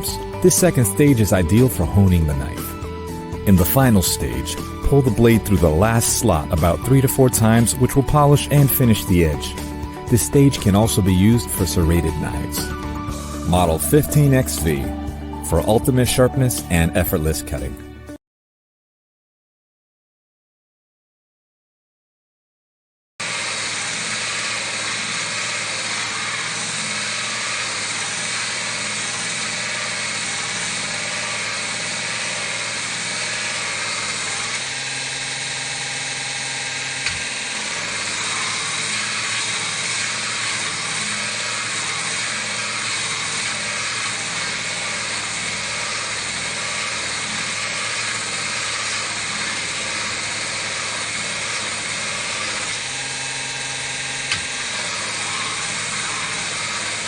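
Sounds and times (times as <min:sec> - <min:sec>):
power tool motor grinding: 0:00.0 - 0:18.1, 0:23.2 - 0:57.0.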